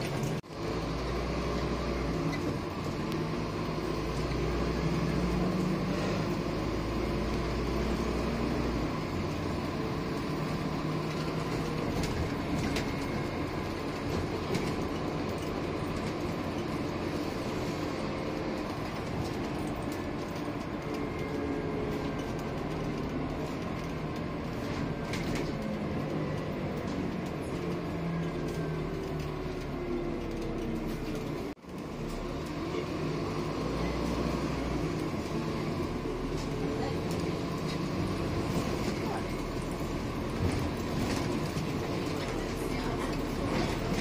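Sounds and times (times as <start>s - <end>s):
bus diesel engine running: 0.0s - 44.0s
road noise rumble: 0.0s - 44.0s.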